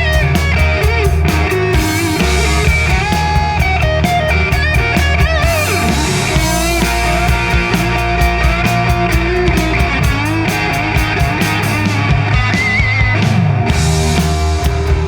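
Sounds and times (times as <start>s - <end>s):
drums and bass: 0.0s - 15.0s
electric guitar lead: 0.0s - 15.0s.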